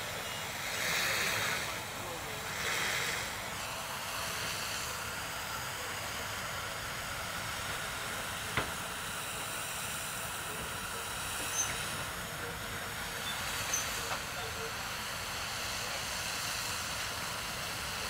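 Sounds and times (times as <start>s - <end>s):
fire hose water spraying: 0.0s - 18.0s.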